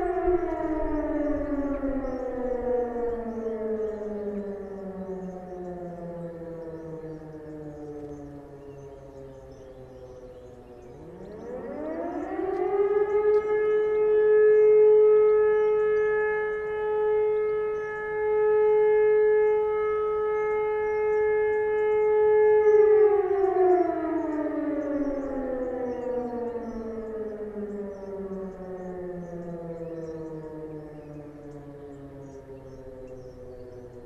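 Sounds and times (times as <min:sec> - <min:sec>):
motor siren wailing: 0:00.0 - 0:34.0.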